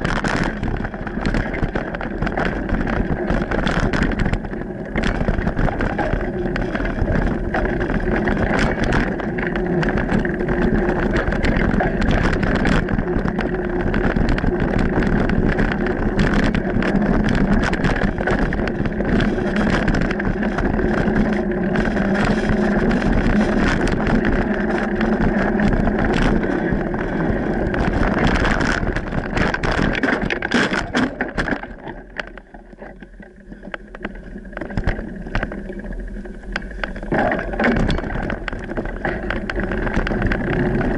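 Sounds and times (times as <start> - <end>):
bike clicking and rattling: 0.0 - 40.9
bike tyre noise: 0.0 - 40.9
wind on microphone: 0.0 - 40.9.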